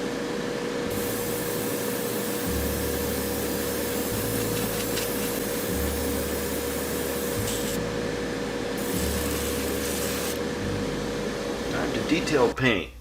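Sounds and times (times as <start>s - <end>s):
ultrasonic cleaner humming: 0.0s - 12.8s.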